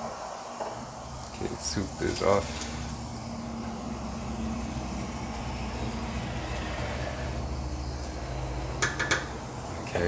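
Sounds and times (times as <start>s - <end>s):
faint hiss: 0.0s - 10.0s
kitchen appliance humming: 0.0s - 10.0s.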